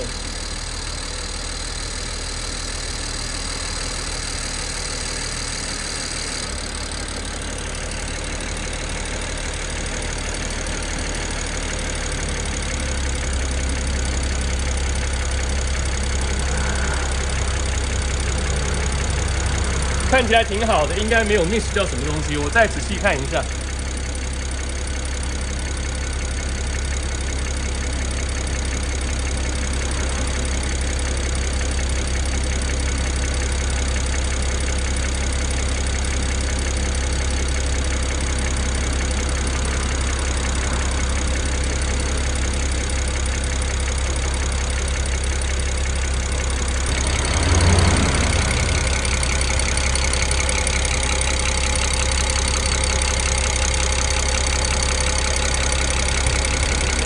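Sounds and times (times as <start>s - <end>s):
car engine idling with ticking: 0.0s - 57.0s.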